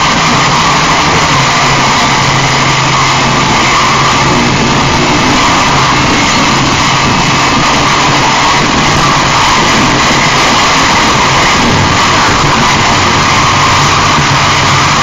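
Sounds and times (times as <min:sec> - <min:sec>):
distorted static noise: 0:00.0 - 0:15.0
low drone: 0:00.0 - 0:15.0.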